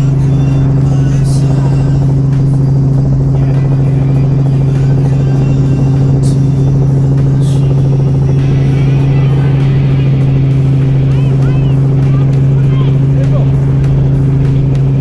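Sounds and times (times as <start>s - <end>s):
helicopter steady drone: 0.0s - 15.0s.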